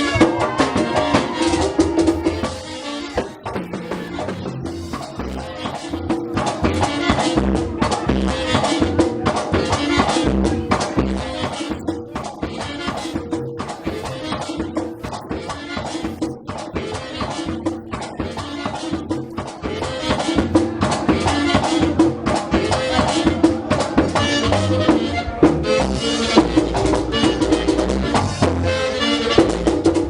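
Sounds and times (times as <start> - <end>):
band playing latin music: 0.0 - 30.0
drums: 0.0 - 30.0.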